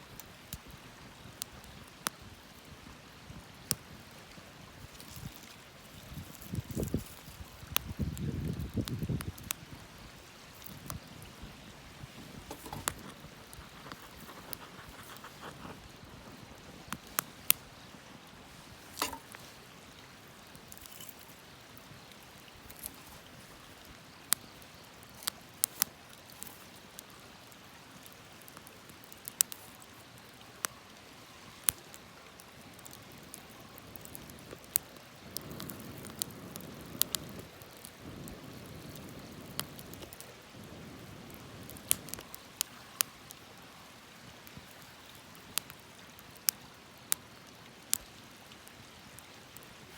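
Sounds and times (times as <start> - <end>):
campfire crackling: 0.0 - 49.9
faint hiss: 0.0 - 49.9.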